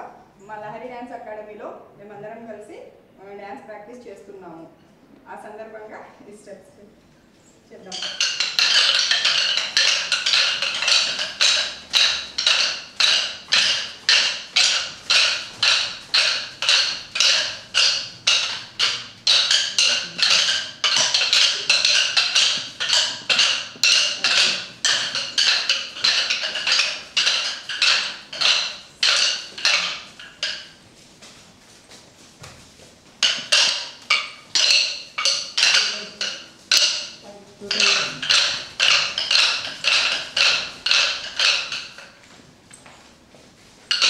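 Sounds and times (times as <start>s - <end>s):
wooden sticks clacking together: 7.8s - 44.0s.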